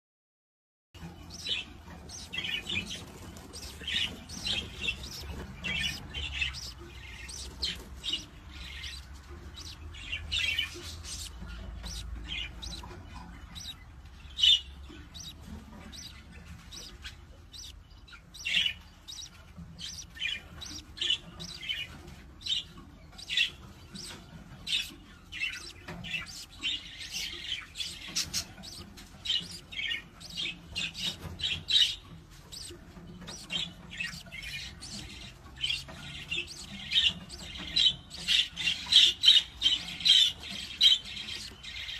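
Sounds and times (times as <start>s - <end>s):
budgerigars chirping and squawking: 1.0s - 41.9s.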